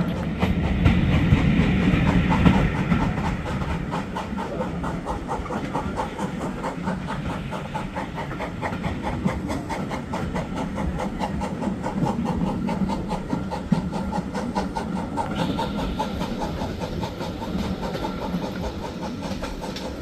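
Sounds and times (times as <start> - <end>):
train rumbling and clattering: 0.0 - 20.0.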